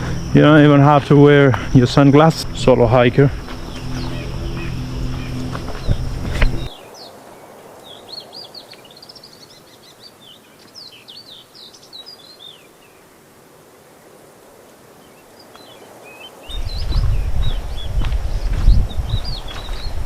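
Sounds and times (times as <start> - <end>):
songbird singing: 0.0 - 13.4, 14.6 - 20.0.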